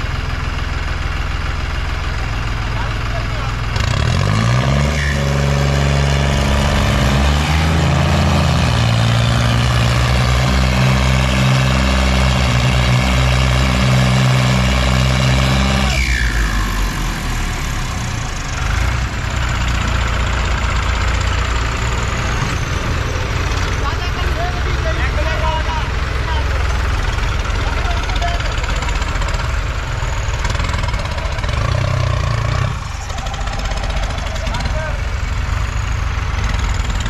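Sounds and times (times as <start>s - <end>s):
diesel engine revving: 0.0s - 37.0s.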